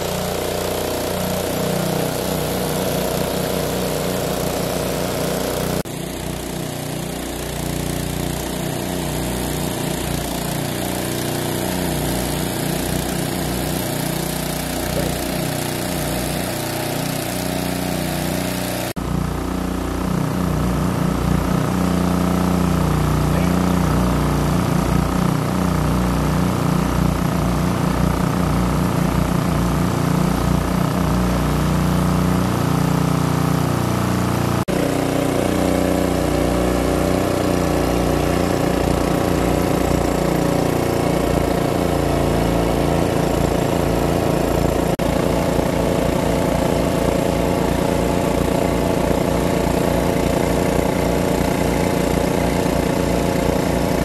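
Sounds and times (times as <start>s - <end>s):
petrol engine driving water pump: 0.0s - 54.0s.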